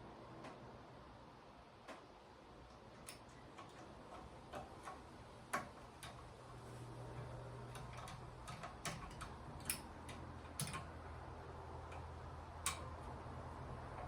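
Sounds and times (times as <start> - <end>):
ceiling fan motor hum: 0.0 - 14.0
fan ticking: 1.8 - 14.0.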